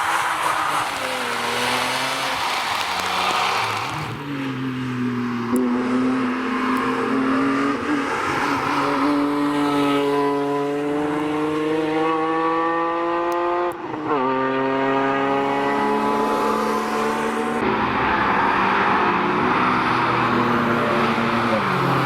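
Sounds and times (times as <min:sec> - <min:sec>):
car engine revving under full throttle: 0:00.0 - 0:22.0.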